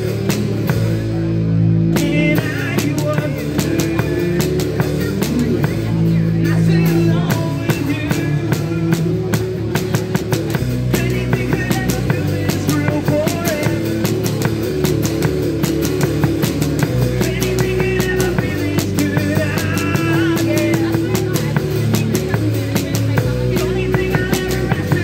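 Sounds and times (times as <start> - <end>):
drum kit beat: 0.0 - 25.0
live rock band playing: 0.0 - 25.0.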